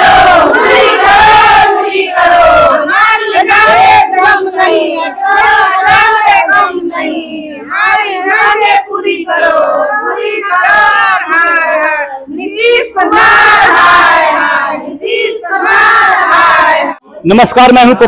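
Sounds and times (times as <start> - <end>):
women chanting slogans: 0.0 - 17.0.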